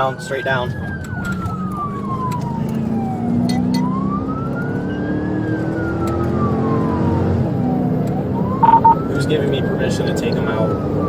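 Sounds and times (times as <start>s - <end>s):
police siren wailing: 0.2s - 11.0s.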